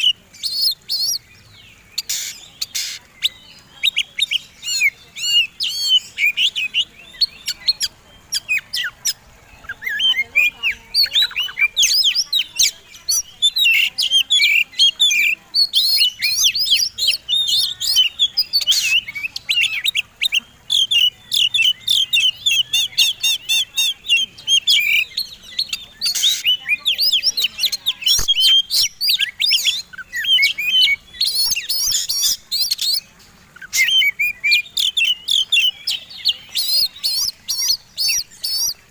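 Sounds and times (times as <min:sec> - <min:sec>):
songbirds singing fast chirps: 0:00.0 - 0:38.9.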